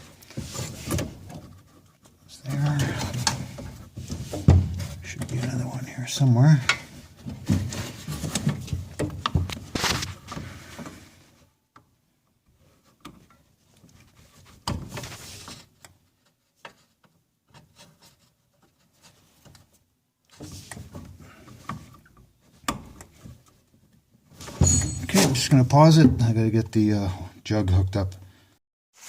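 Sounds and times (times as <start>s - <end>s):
rubbing and light knocks: 0.0s - 6.0s, 6.6s - 11.5s, 12.4s - 25.5s.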